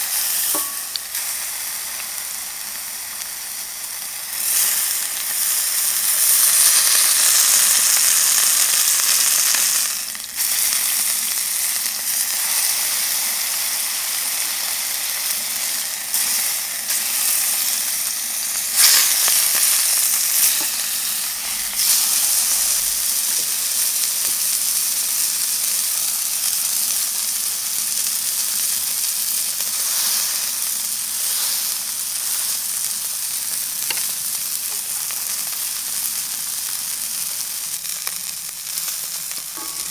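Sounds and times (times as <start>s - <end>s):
steak sizzling in a hot pan: 0.0s - 39.9s.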